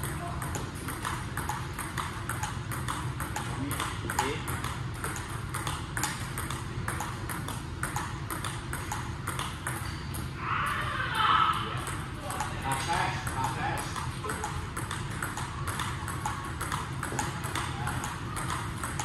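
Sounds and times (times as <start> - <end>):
table tennis balls clicking: 0.0 - 10.3, 11.2 - 19.0.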